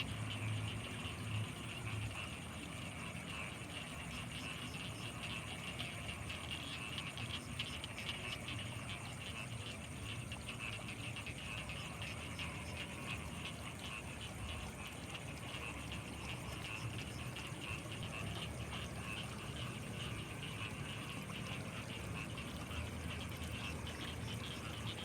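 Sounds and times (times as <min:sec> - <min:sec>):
frogs croaking in chorus: 0:00.0 - 0:25.0.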